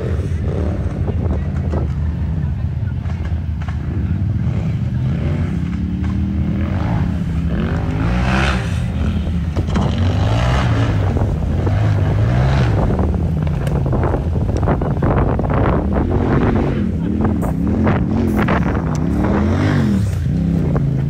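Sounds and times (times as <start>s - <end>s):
wind noise on microphone: 0.0s - 3.5s, 6.5s - 21.0s
buggy engine revving: 0.0s - 21.0s.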